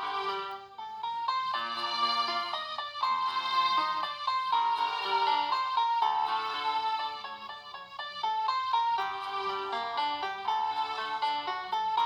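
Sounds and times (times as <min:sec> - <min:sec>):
phone ringtone melody: 0:00.0 - 0:12.0.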